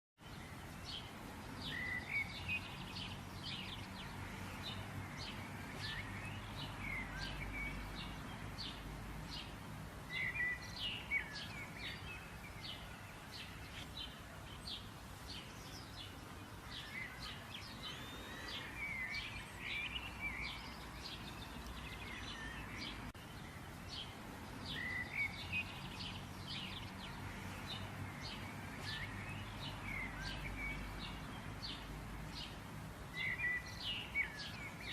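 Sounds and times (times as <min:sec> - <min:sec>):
birds chirping and calling: 0:00.4 - 0:34.9.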